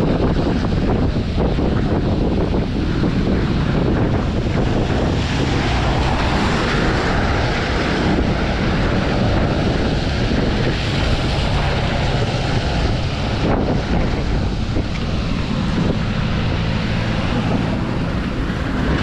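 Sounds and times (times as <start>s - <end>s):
bicycle tyres on wet road: 0.0s - 19.0s
wind buffeting microphone: 0.0s - 19.0s.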